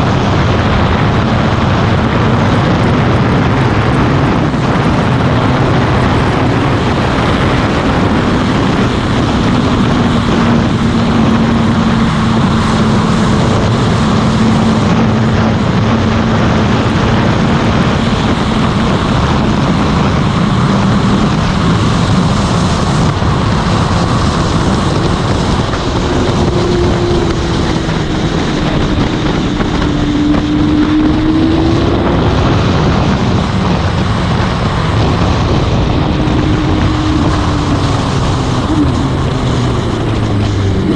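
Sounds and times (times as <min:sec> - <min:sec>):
motorcycle engine: 0:00.0 - 0:40.9
wind noise on microphone: 0:00.0 - 0:40.9.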